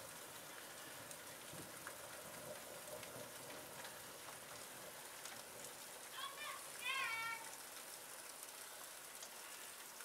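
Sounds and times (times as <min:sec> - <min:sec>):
rain hiss: 0:00.0 - 0:10.0
raindrops ticking on window: 0:00.0 - 0:10.0.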